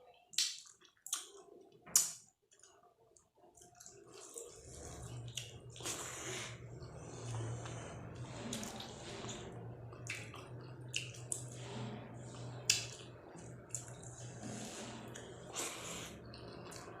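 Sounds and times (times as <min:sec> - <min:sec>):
wet chewing and squishing: 0:00.3 - 0:11.6, 0:12.2 - 0:14.4, 0:15.0 - 0:17.0.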